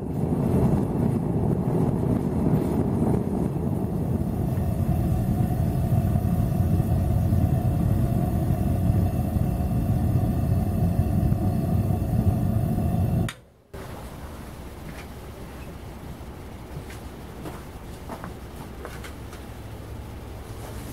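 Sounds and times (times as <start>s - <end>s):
gas forge burner rushing: 0.0s - 20.9s.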